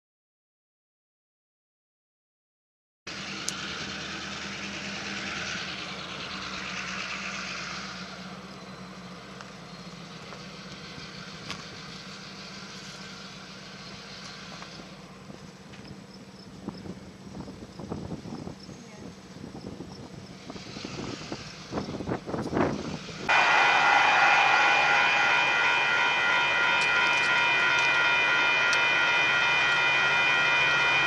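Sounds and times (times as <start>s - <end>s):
engine idling: 3.1s - 31.0s.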